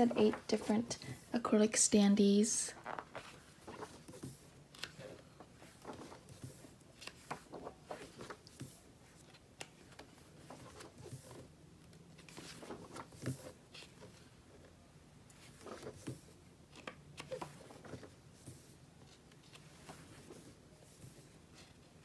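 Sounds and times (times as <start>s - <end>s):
magazine pages turning: 0.0s - 1.2s, 2.8s - 11.5s, 12.1s - 14.4s, 15.3s - 21.8s.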